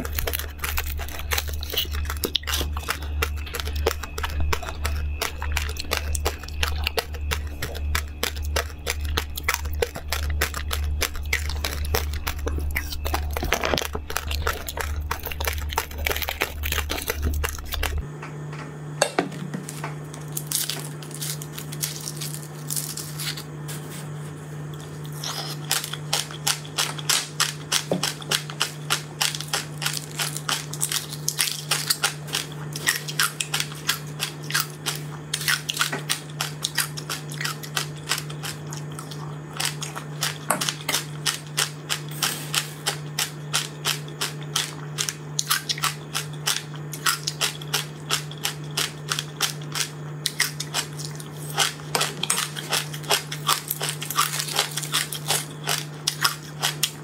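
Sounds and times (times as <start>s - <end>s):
crunching and chewing: 0.0s - 18.1s, 19.6s - 57.0s
foil wrappers crinkling: 0.0s - 18.1s, 19.6s - 57.0s
low hum: 0.0s - 48.8s.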